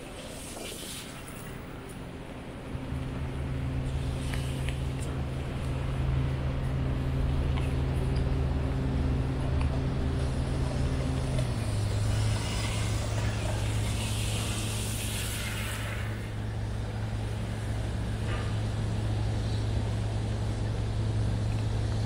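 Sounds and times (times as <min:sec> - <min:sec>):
passing car tyre noise: 0:00.0 - 0:19.8
vehicle engine humming: 0:01.4 - 0:22.0.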